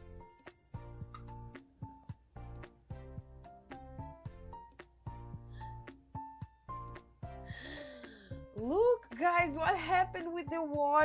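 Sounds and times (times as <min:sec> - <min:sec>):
music with held notes and light beats: 0:00.0 - 0:11.0.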